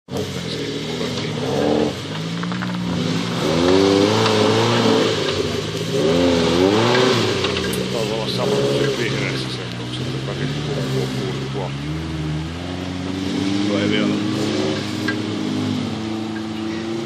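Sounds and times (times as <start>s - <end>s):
car engine revving under load: 0.1s - 17.0s.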